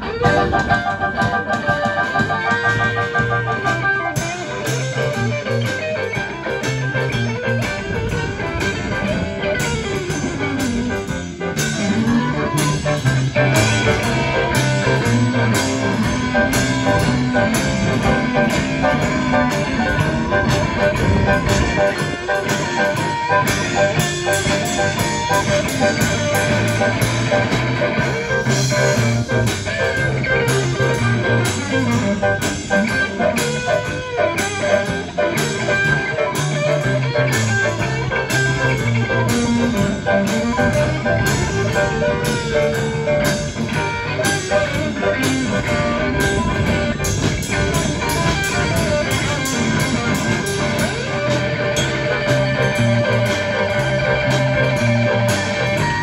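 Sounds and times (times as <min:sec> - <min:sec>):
rock and roll guitar: 0:00.0 - 0:56.0
steady drum beat: 0:00.0 - 0:56.0.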